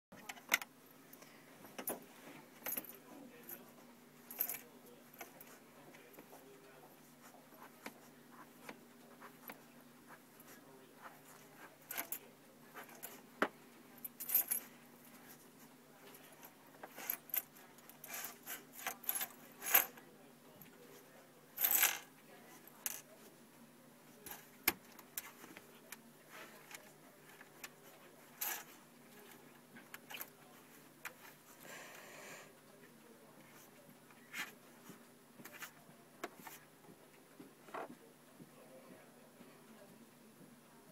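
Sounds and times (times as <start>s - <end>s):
faint steady hum: 0.2s - 40.9s.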